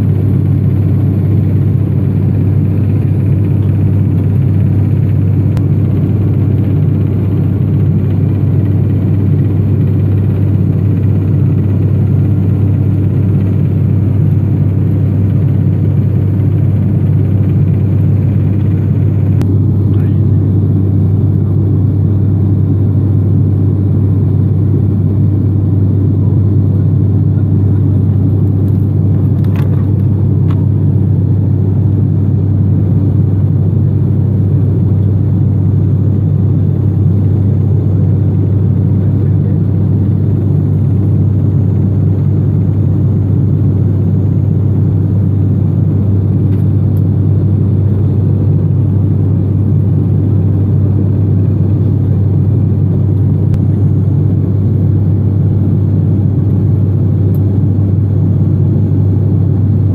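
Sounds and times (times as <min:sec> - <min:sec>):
turboprop cabin drone: 0:00.0 - 0:59.9.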